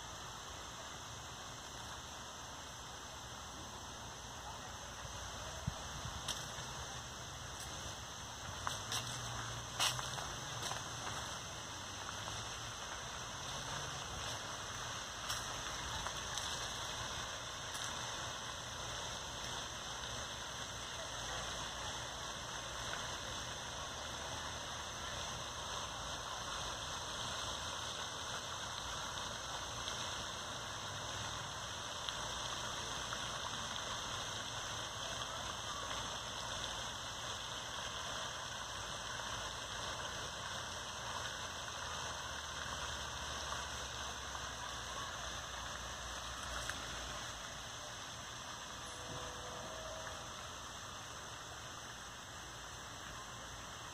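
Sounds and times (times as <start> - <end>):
fountain spray splashing: 0.0 - 53.9.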